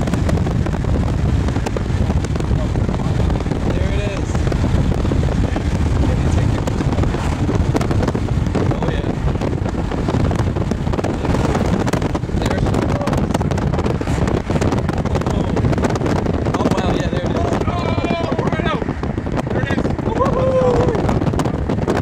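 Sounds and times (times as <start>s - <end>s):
tyre and road noise: 0.0s - 22.0s
wind buffeting microphone: 0.0s - 22.0s.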